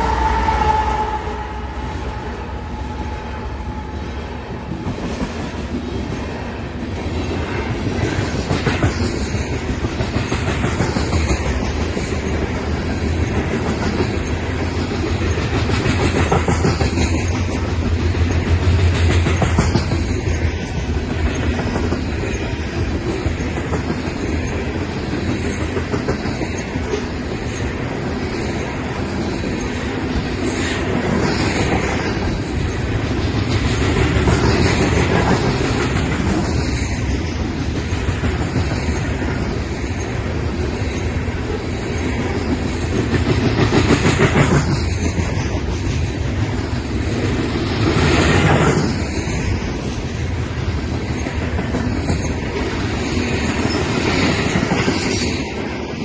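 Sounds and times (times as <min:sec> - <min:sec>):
train wheels rumbling on rails: 0:00.0 - 0:56.0
clickety-clack of rail joints: 0:04.5 - 0:56.0.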